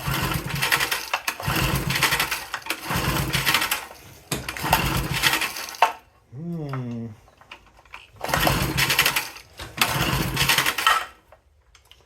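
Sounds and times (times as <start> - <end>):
small engine pull-start cranking: 0.0 - 6.0, 7.5 - 12.0.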